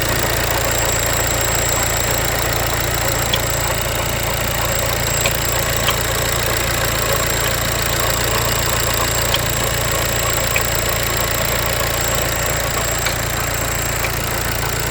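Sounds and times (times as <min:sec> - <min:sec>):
diesel engine idling: 0:00.0 - 0:14.9
sharp engine knock: 0:00.2 - 0:14.9.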